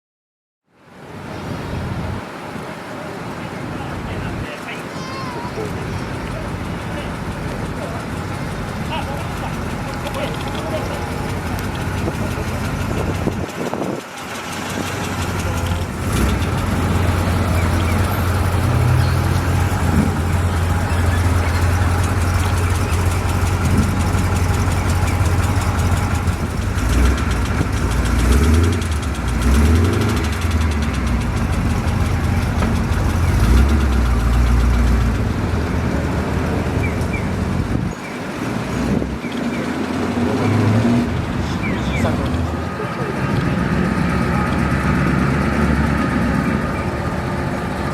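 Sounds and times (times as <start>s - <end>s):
car engine idling: 3.6s - 47.9s
car engine revving: 6.1s - 47.9s.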